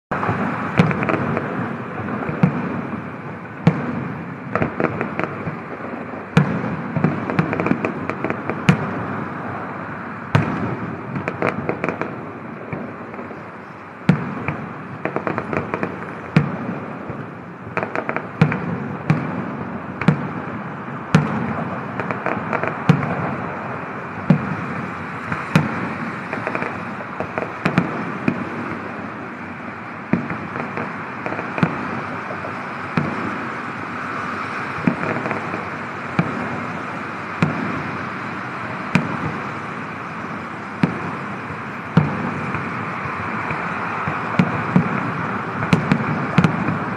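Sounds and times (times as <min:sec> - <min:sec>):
continuous rumbling: 0:00.1 - 0:46.9
crackling fireworks reports: 0:00.1 - 0:46.9
fireworks bangs: 0:00.1 - 0:46.9.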